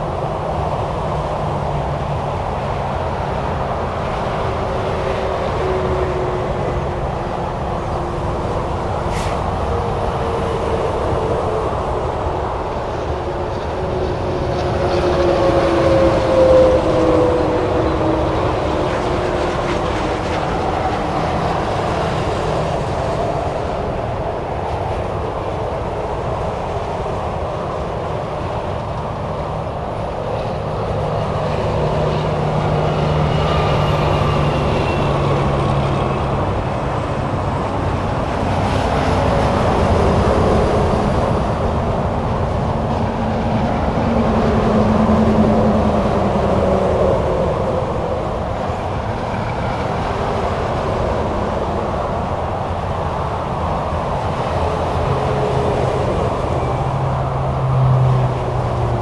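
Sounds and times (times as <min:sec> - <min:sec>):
cars and trucks passing at speed: 0:00.0 - 0:59.0.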